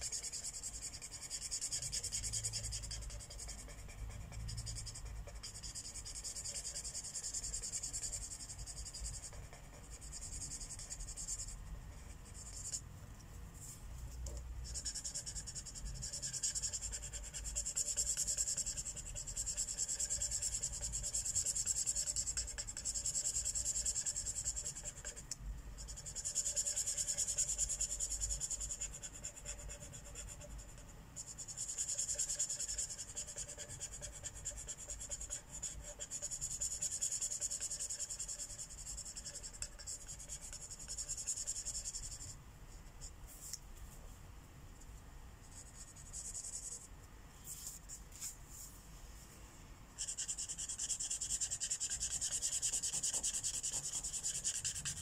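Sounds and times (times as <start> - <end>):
marker scratching on paper: 0.0 - 12.9, 13.6 - 43.6, 45.4 - 46.9, 47.5 - 48.7, 50.0 - 55.0.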